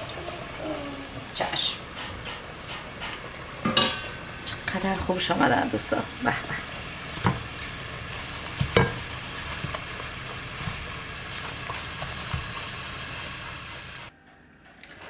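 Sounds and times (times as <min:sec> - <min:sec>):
food deep-frying in oil: 0:00.0 - 0:14.1.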